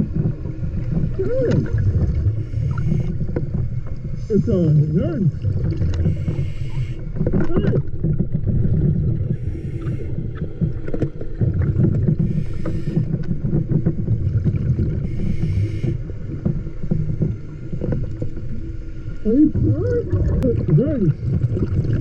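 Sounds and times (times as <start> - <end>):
muffled underwater rumble: 0.0 - 22.0.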